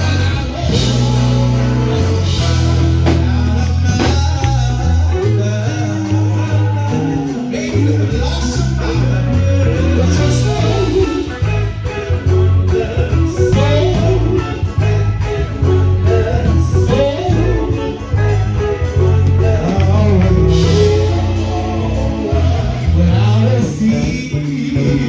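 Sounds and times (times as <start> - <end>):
backing vocal harmonies: 0.0 - 25.0
electric guitar: 0.0 - 25.0
low bass line: 0.0 - 25.0
male lead singer: 0.0 - 25.0
steady beat: 0.0 - 25.0.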